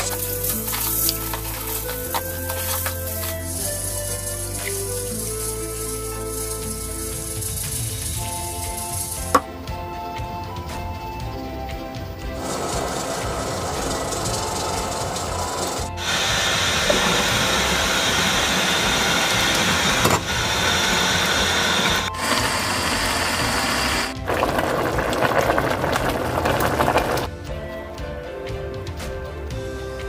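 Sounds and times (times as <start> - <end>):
pot boiling and bubbling: 0.0 - 9.5, 12.3 - 27.3.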